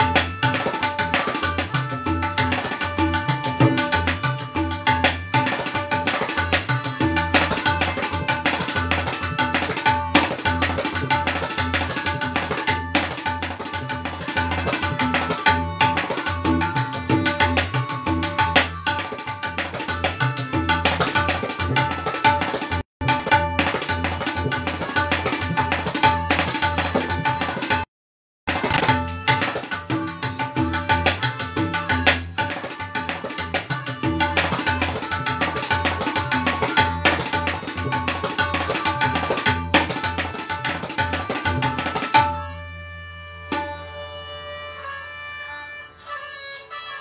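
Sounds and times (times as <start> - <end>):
tabla strokes: 0.0 - 27.9, 28.5 - 46.8.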